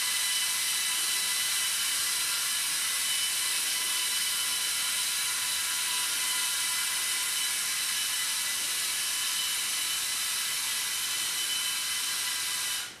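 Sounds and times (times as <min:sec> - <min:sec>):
electric motors and gears whining: 0:00.0 - 0:13.0.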